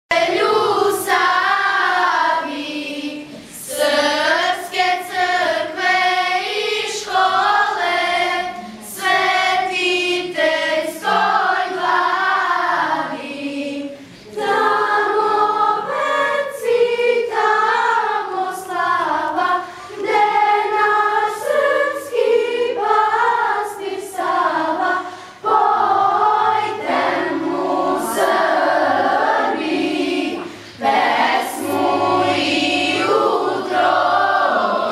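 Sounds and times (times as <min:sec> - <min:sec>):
girls choir singing: 0:00.1 - 0:34.9.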